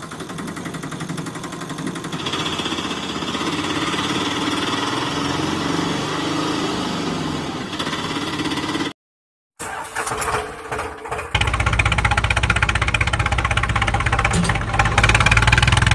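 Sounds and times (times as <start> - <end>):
engine chugging: 0.0 - 8.9, 9.6 - 15.9.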